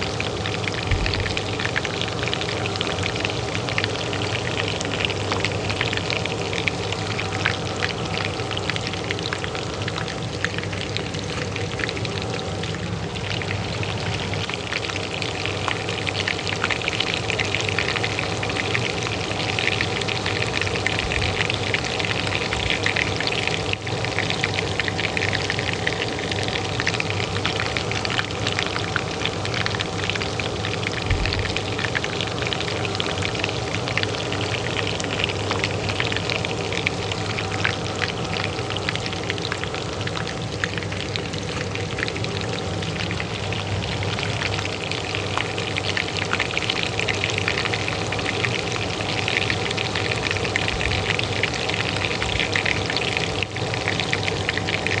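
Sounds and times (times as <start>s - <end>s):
hot oil frying: 0.0s - 55.0s
range hood fan hum: 0.0s - 55.0s.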